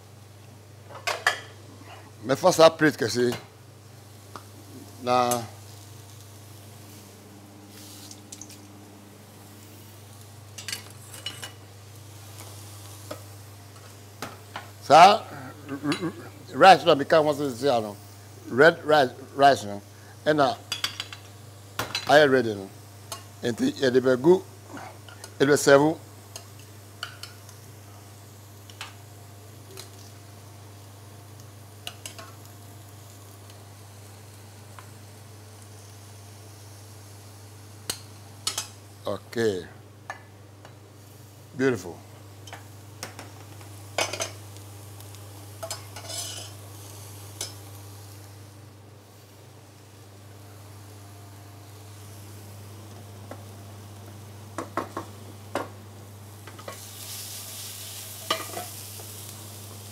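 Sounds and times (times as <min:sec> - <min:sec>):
steady low hum: 0:00.0 - 0:56.8
vegetables sizzling in a pan: 0:00.0 - 0:59.9.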